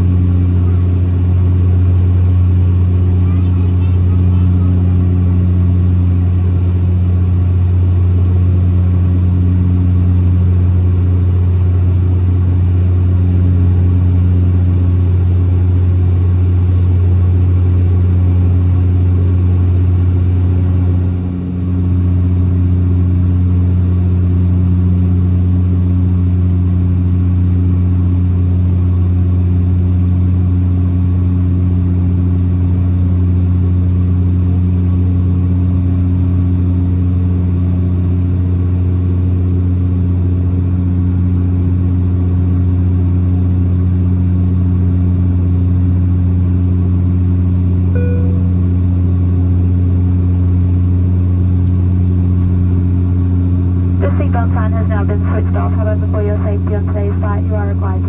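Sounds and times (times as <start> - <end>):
high steady engine tones: 0.0 - 58.0
turboprop cabin drone: 0.0 - 58.0.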